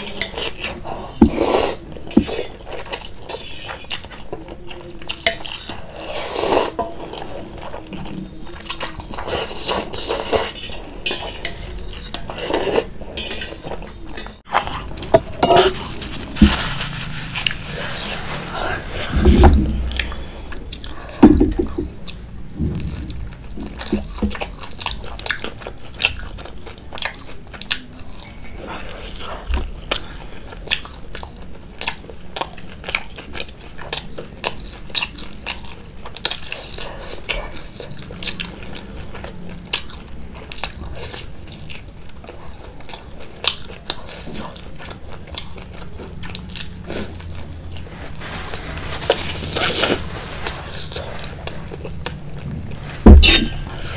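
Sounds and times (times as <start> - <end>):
chewing with crunches: 0.0 - 53.9.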